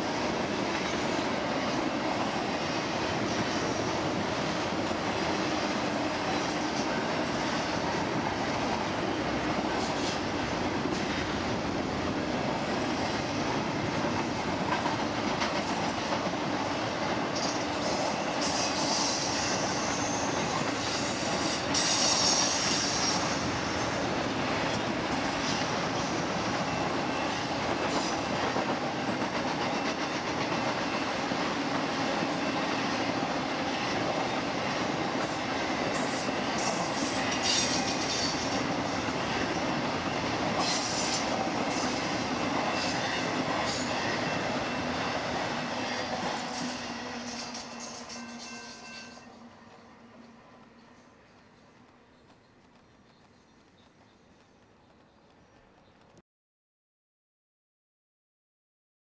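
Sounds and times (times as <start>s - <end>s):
freight train wheels rumbling: 0.0s - 56.2s.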